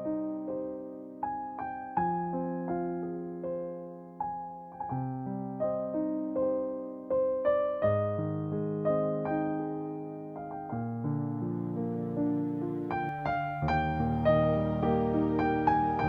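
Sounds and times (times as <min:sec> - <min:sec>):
slow solo piano: 0:00.0 - 0:16.0.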